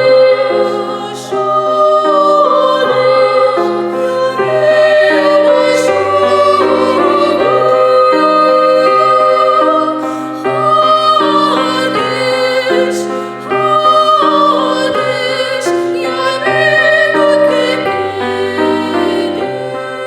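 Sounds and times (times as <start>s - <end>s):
piano accompaniment: 0.0s - 20.0s
vocal ensemble singing: 0.0s - 20.0s.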